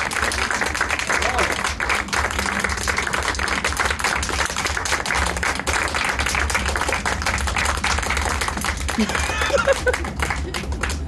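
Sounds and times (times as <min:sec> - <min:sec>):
group clapping hands: 0:00.0 - 0:11.0.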